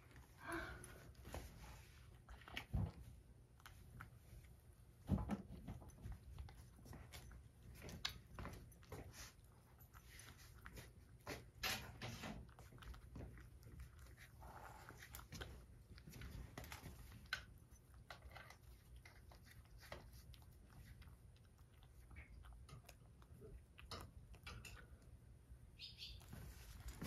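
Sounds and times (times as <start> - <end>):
cat eating from ceramic bowl: 1.0 - 25.8.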